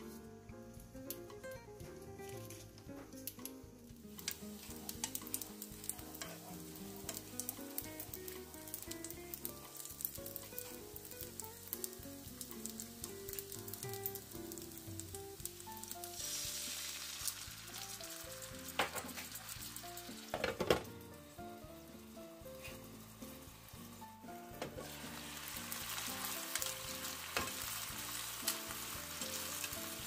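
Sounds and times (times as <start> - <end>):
dumplings sizzling in oil: 0.0 - 30.0
water hissing on hot pan: 3.2 - 30.0.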